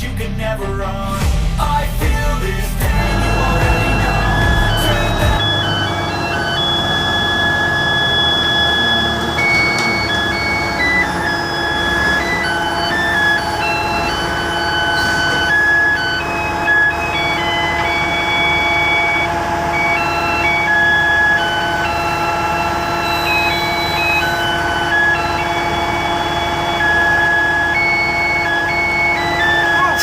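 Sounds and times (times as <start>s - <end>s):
rough engine hum: 0.0s - 30.0s
machine whine: 1.8s - 30.0s
electronic beeping tune: 2.8s - 30.0s.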